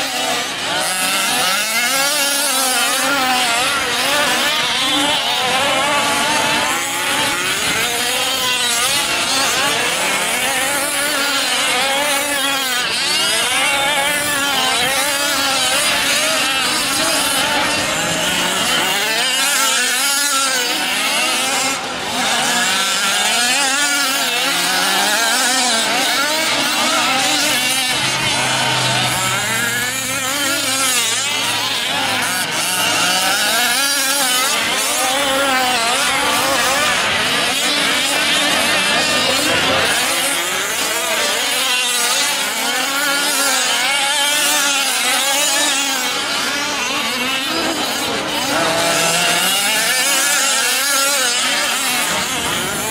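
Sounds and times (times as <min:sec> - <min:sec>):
small two-stroke engines revving: 0:00.0 - 0:52.9.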